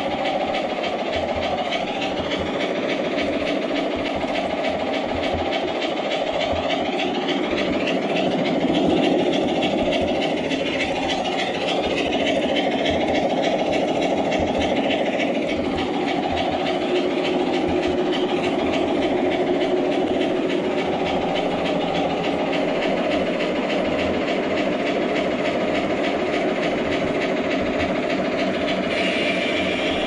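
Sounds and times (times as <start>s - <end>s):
model train running: 0.0s - 30.0s
wheels clicking over rails: 0.0s - 30.0s.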